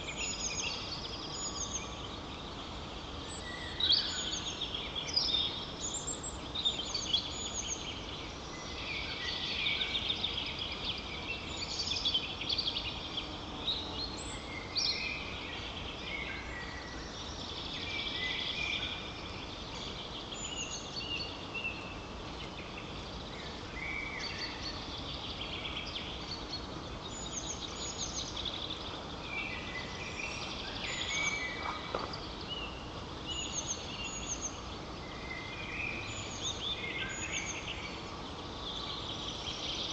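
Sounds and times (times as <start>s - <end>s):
songbirds singing and calling: 0.0s - 39.9s
steady low hiss: 0.0s - 39.9s.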